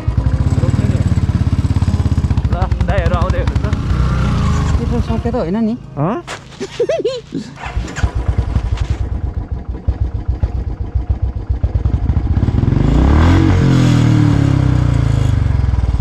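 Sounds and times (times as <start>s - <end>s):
motorcycle engine passing: 0.0s - 16.0s.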